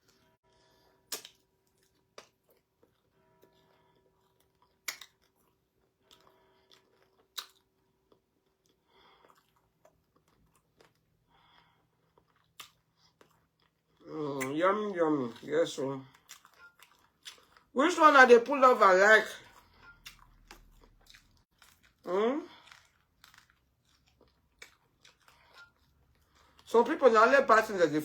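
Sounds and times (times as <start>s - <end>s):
close chewing and mouth sounds: 1.0s - 28.0s.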